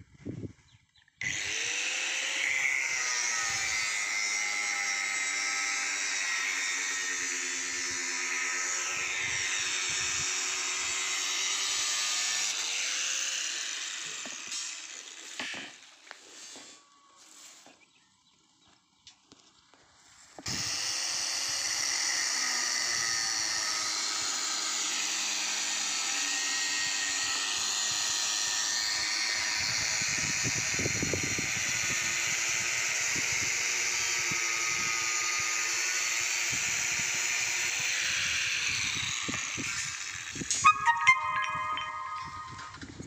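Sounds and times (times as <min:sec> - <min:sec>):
angle grinder cutting steel: 0:01.2 - 0:16.8, 0:20.5 - 0:42.8.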